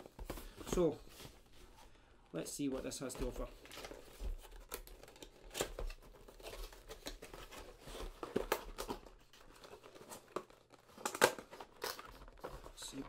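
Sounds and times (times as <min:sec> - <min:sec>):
cardboard crinkling and scraping: 0:00.0 - 0:13.0.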